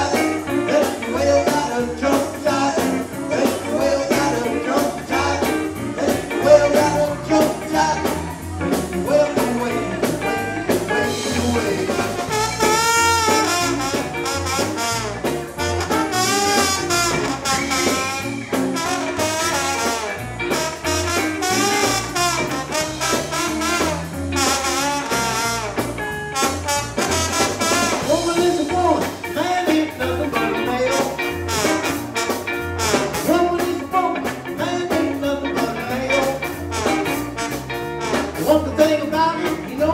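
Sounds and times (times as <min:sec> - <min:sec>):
trombone lead line: 0:00.0 - 0:29.1, 0:29.7 - 0:34.0, 0:34.9 - 0:39.6
drum kit: 0:00.0 - 0:39.9
electric bass guitar: 0:00.0 - 0:39.9.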